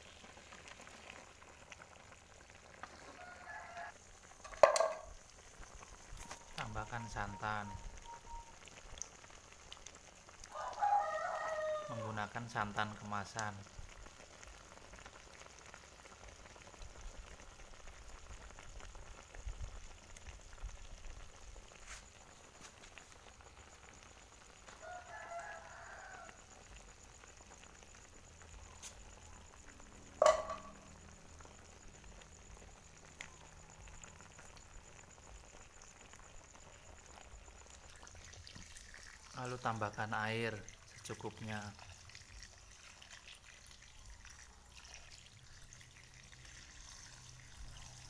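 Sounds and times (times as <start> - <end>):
faint sizzling in a wok: 0.0 - 48.0.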